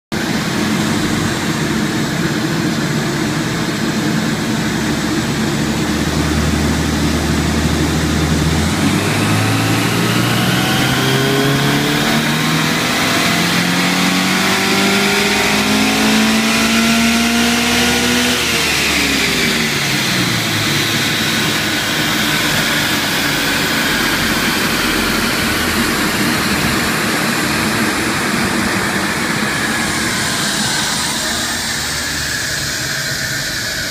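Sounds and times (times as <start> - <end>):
steady rushing noise: 0.1 - 17.1, 17.9 - 33.9
car engine revving: 0.2 - 33.9.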